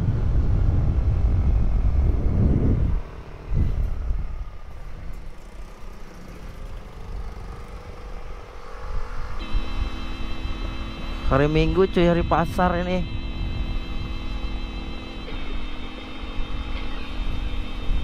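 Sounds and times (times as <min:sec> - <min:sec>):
wind noise: 0:00.0 - 0:05.4, 0:06.6 - 0:18.0
motorcycle engine: 0:00.0 - 0:18.0.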